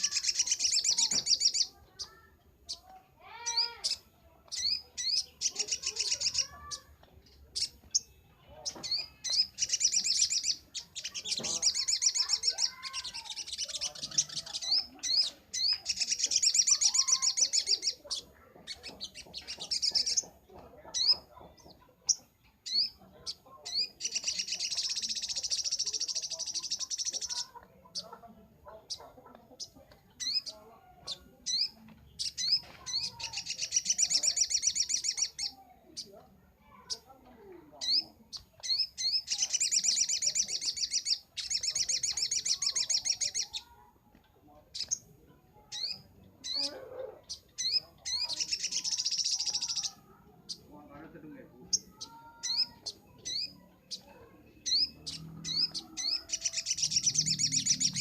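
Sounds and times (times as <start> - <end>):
bird chattering song: 0.0 - 43.8, 44.6 - 58.0.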